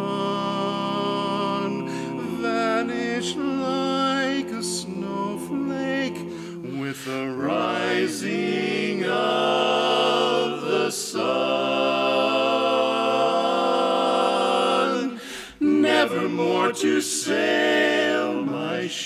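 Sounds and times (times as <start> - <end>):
men singing in close harmony: 0.0 - 19.0.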